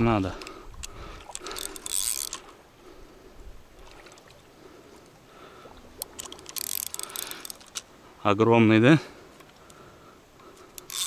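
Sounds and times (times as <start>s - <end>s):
water lapping at river edge: 0.0s - 8.2s, 8.8s - 11.0s.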